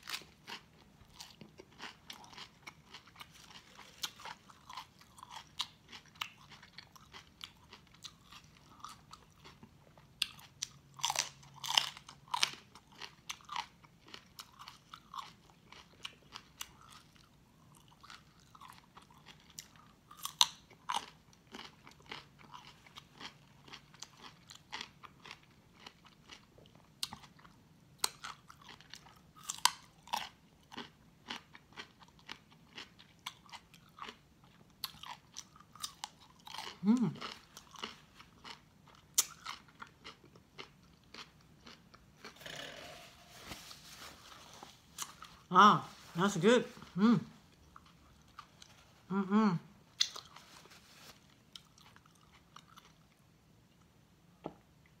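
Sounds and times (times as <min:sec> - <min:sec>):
chewing crunchy vegetables: 0:00.0 - 0:53.2.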